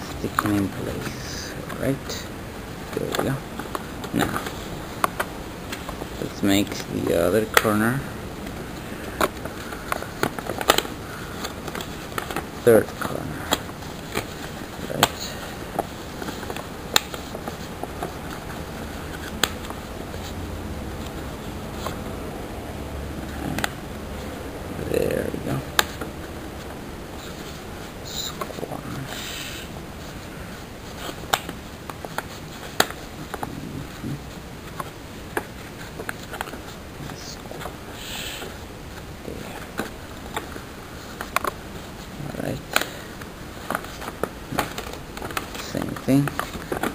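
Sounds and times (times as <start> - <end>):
faint steady hiss: 0.0 - 46.9
paper being folded and creased: 2.8 - 22.1, 23.2 - 29.2, 29.9 - 46.9.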